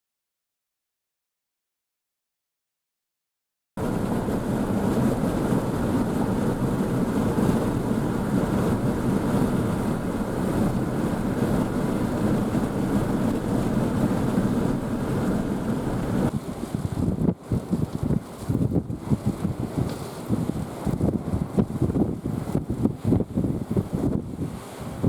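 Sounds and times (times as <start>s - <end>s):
gusty wind buffeting microphone: 3.8s - 25.0s.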